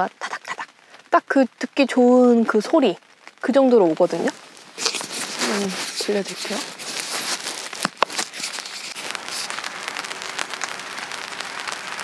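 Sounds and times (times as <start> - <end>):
rain pattering on tent: 0.0 - 12.0.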